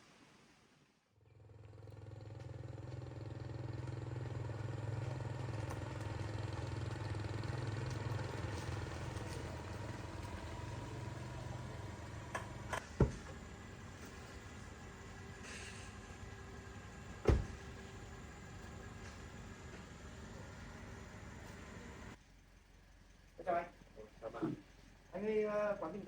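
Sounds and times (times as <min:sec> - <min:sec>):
vehicle engine running: 0:01.4 - 0:26.0.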